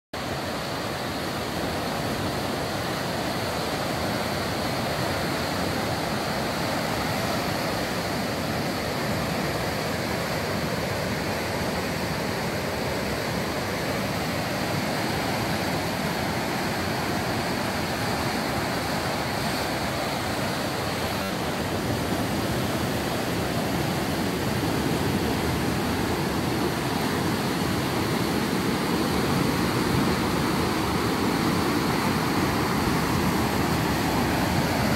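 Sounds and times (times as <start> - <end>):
river rushing over rapids: 0.2 - 34.9.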